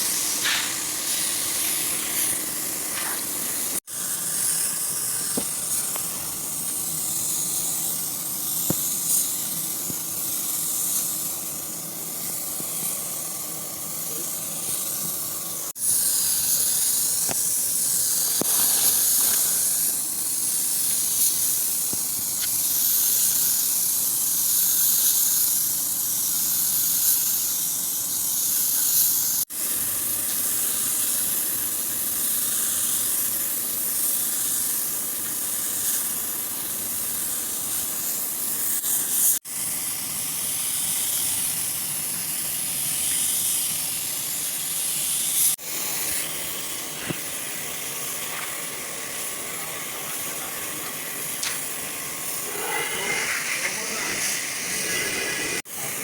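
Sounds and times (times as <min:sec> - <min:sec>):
compressed air hissing from nozzle: 0:00.0 - 0:56.0.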